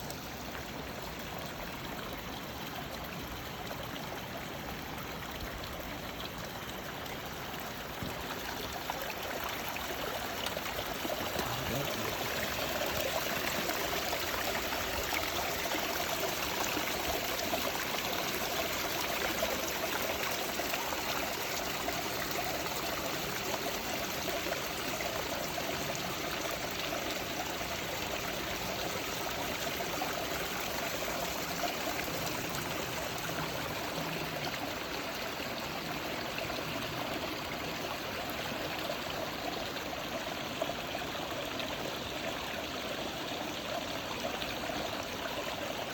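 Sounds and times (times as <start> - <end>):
stream trickling over rocks: 0.0 - 45.9.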